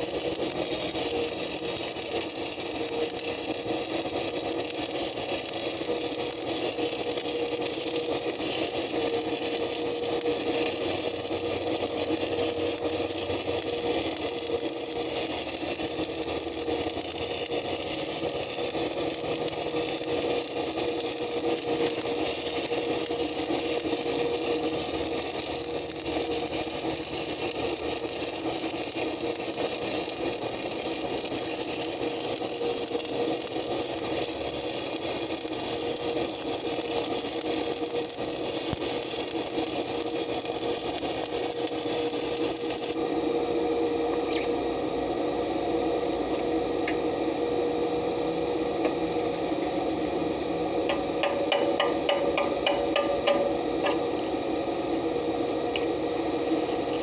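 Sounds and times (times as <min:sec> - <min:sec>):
welding arc crackling and hissing: 0:00.0 - 0:57.0
welding machine hum: 0:00.0 - 0:57.0.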